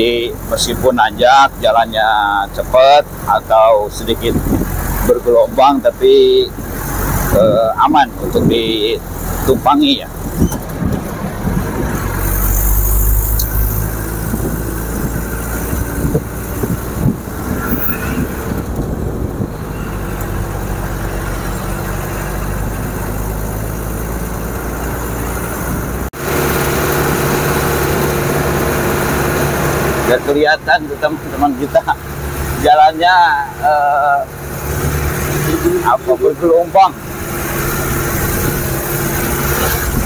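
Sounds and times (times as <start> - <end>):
jeep engine and road noise: 0.0 - 40.0
steady engine hum: 0.0 - 40.0.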